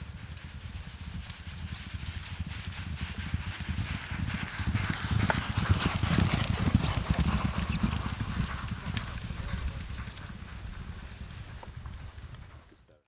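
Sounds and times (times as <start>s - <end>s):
horses galloping hoofbeats: 0.0s - 13.0s.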